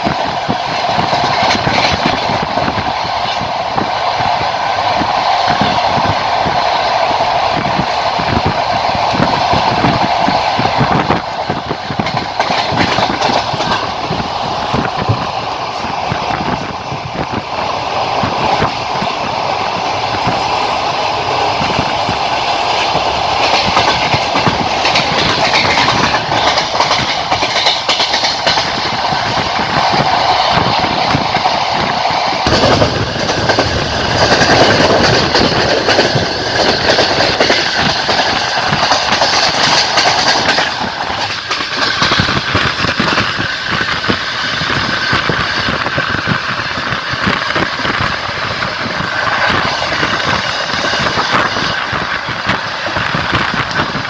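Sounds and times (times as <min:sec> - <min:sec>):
train rolling rumble: 0:00.0 - 0:54.0
train wheels clacking on rail joints: 0:00.0 - 0:54.0.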